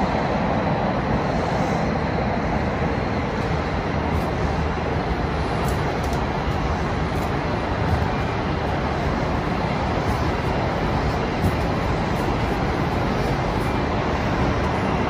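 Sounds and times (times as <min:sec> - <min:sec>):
distant city traffic roar: 0:00.0 - 0:15.0.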